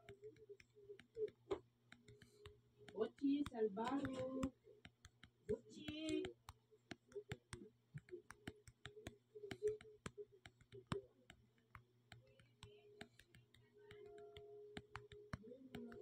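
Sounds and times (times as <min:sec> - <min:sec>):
faint irregular clicks: 0:00.0 - 0:16.0.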